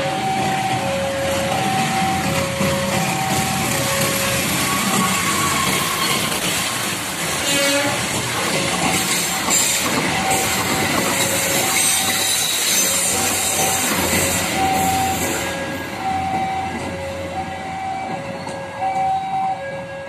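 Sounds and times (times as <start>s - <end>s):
two-tone warning signal: 0.0s - 6.2s, 9.3s - 20.0s
train coaches rolling on rails: 0.0s - 20.0s.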